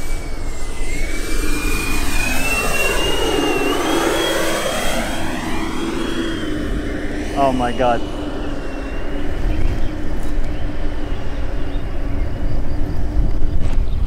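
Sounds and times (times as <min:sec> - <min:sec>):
rush of air: 0:00.0 - 0:13.9
electric ducted fans whining: 0:00.0 - 0:14.0.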